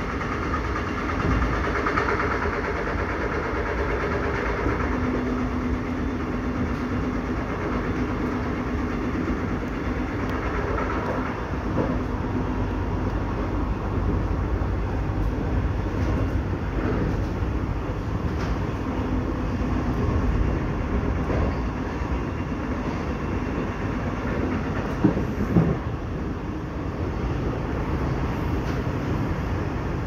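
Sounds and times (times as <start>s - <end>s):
passenger train rumble: 0.0s - 30.0s.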